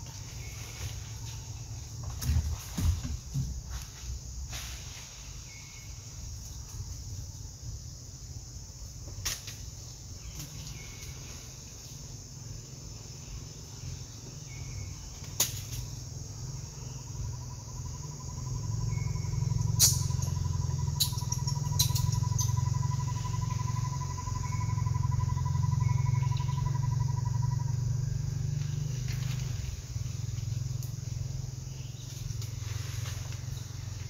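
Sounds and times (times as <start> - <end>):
insects hissing: 0.0 - 34.0.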